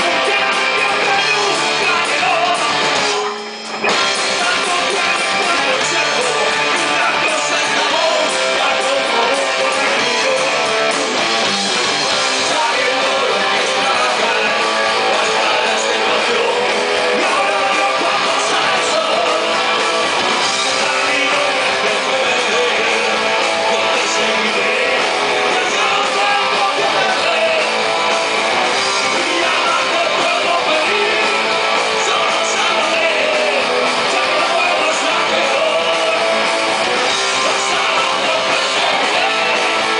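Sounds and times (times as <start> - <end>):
electric guitar: 0.0 - 39.9
rock band playing live: 0.0 - 39.9.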